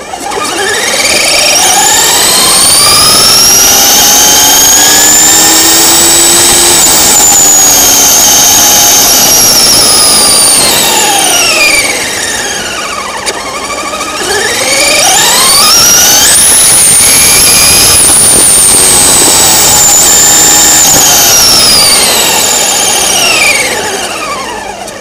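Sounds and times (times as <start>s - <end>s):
electric motor high whine: 0.0s - 25.0s.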